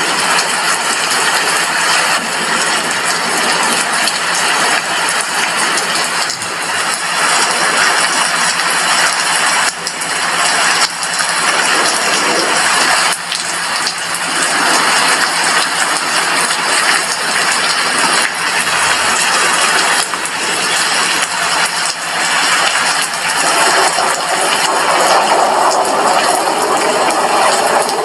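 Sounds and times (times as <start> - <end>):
heavy rain on a window: 0.0 - 28.0.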